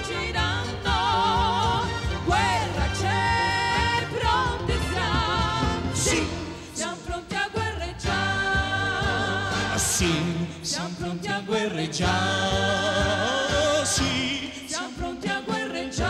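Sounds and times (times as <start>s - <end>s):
voices singing with vibrato: 0.0s - 16.0s.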